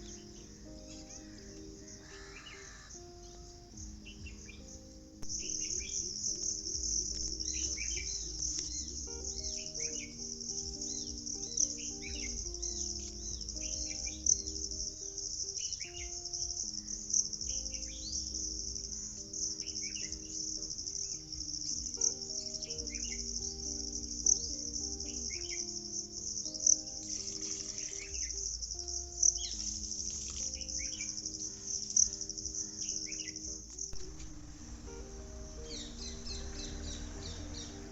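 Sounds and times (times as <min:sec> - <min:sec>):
crickets trilling: 0:00.0 - 0:37.9
soft music of held notes: 0:00.0 - 0:37.9.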